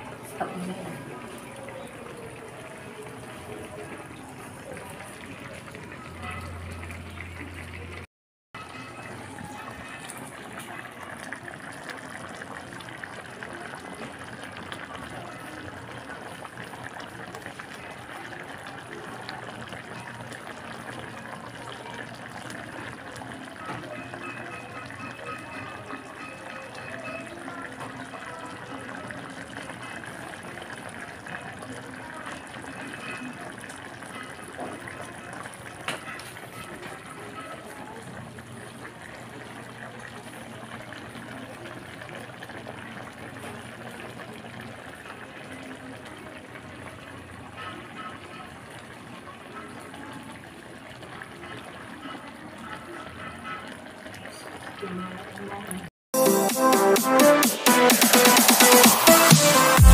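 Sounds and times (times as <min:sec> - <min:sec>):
sauce bubbling in a wok: 0:00.1 - 0:55.5.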